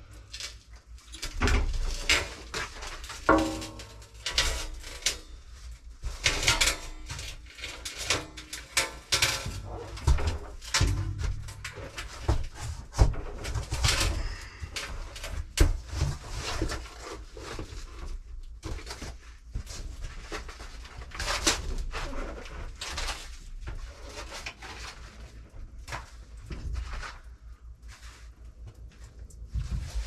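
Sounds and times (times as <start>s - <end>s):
plumbing work knocks and scrapes: 1.0s - 30.0s.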